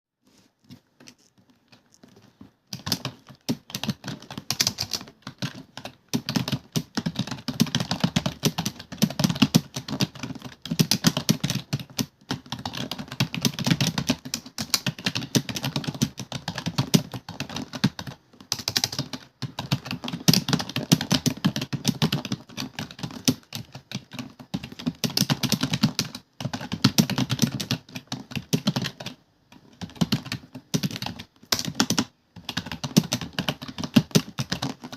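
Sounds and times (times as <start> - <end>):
computer keyboard typing: 1.7 - 34.9.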